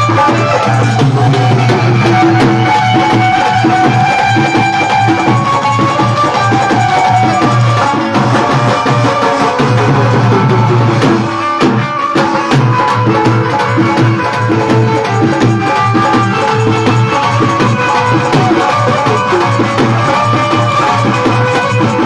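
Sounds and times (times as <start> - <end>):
hand-drum music over sound system: 0.0 - 22.0.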